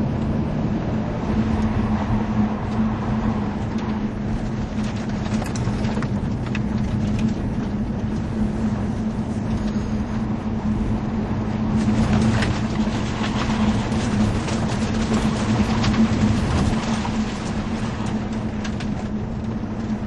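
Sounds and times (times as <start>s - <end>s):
car engine running: 0.0s - 20.0s
tyre and road noise: 0.0s - 20.0s.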